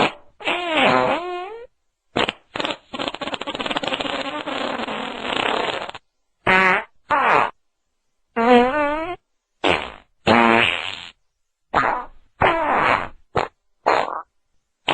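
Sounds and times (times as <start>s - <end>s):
fart sounds: 0.0s - 7.6s, 8.4s - 14.9s.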